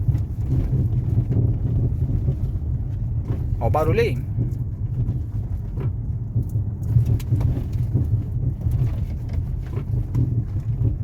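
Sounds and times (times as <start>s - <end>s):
knocks from car front end: 0.0s - 11.0s
low cabin rumble: 0.0s - 11.0s.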